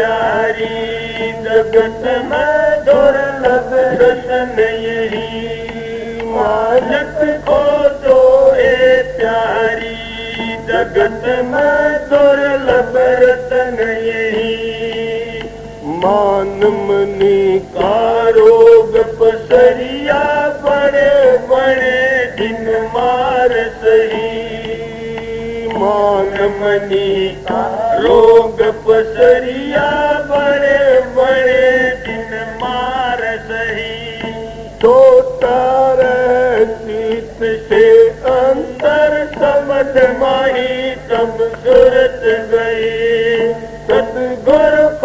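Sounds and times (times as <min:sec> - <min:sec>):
man singing a hymn: 0:00.0 - 0:45.0.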